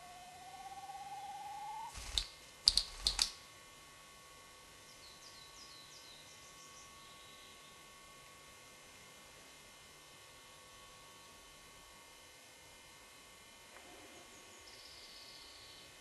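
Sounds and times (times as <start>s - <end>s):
faint hiss and hum: 0.0s - 16.0s.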